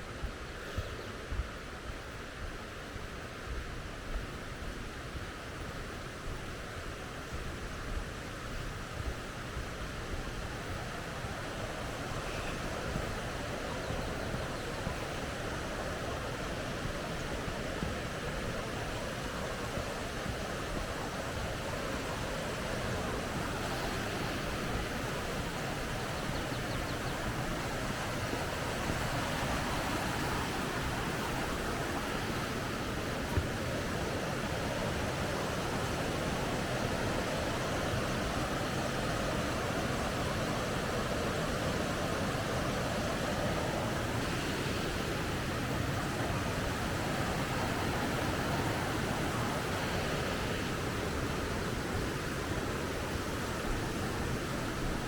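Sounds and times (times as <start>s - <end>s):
stream rushing over rocks: 3.8s - 55.0s.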